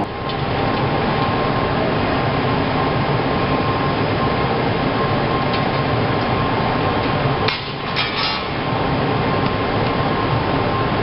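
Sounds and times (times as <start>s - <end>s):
electric arc furnace roaring: 0.0s - 11.0s.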